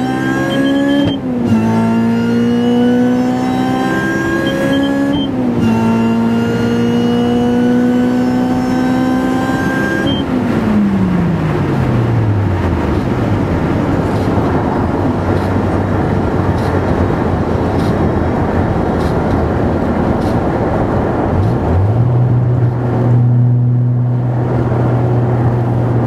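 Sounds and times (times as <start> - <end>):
supercharged car engine running: 0.0 - 26.0.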